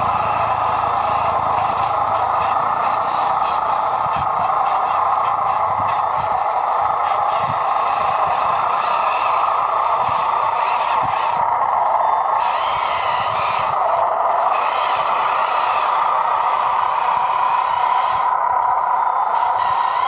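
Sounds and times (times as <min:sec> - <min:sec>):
small electric motor and gearbox: 0:00.0 - 0:20.0.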